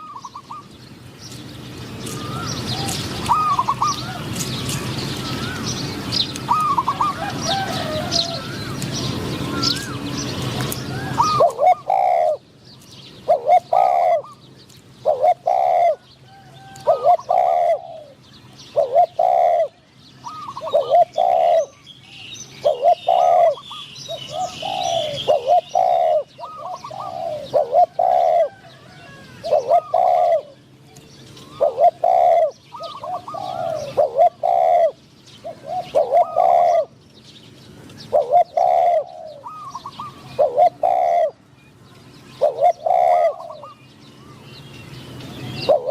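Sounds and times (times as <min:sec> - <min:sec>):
doves cooing: 0:00.0 - 0:37.0, 0:37.6 - 0:45.9
small birds chirping: 0:00.0 - 0:45.9.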